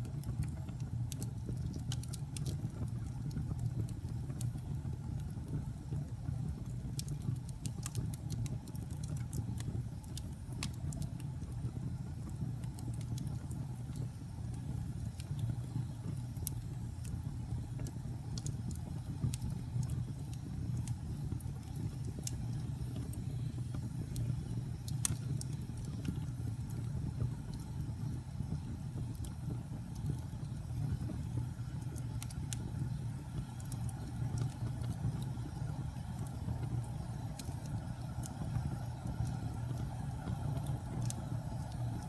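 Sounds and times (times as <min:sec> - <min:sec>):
fire crackling and popping: 0:00.0 - 0:42.0.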